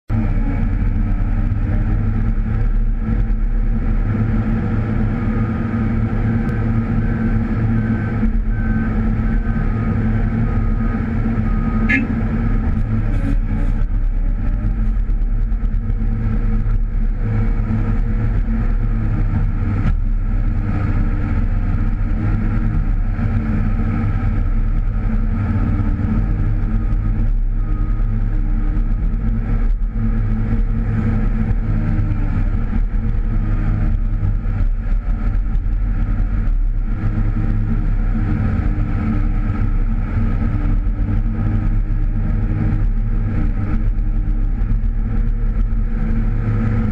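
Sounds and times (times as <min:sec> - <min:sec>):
excavator diesel engine running: 0:00.1 - 0:46.9.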